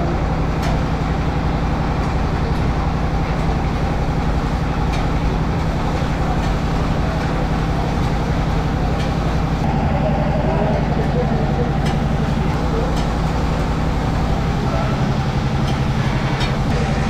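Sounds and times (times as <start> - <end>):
low engine drone: 0.0 - 17.0
street traffic: 0.0 - 17.0.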